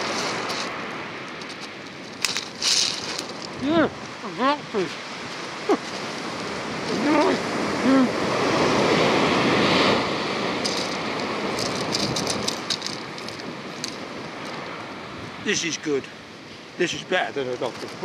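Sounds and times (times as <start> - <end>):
wave washing up shingle beach: 0.0 - 18.0.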